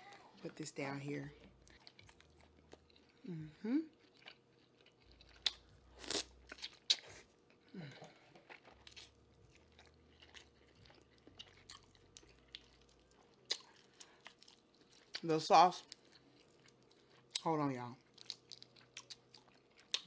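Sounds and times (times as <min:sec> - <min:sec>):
chewing crunchy food: 0:01.2 - 0:20.0.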